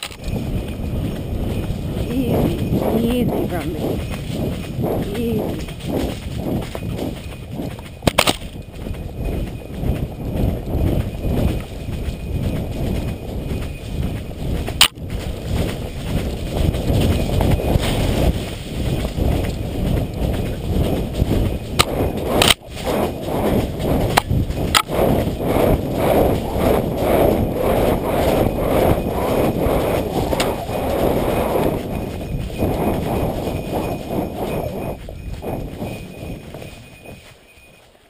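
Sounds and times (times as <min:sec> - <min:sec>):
horse hooves on dirt trail: 0:00.0 - 0:38.0
rumble of movement: 0:00.0 - 0:38.0.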